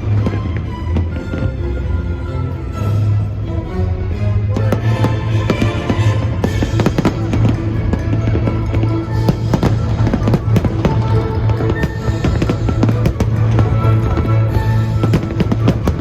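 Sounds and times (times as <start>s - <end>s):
fireworks bangs and crackles: 0.0s - 1.9s, 4.5s - 16.0s.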